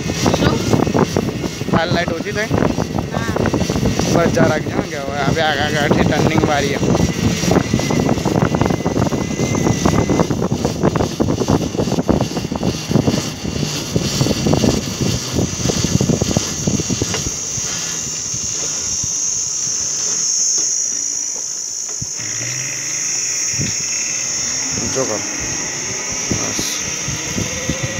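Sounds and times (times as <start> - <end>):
wind buffeting microphone: 0.0 - 20.9, 21.7 - 27.9
high-pitched buzz: 0.0 - 27.9.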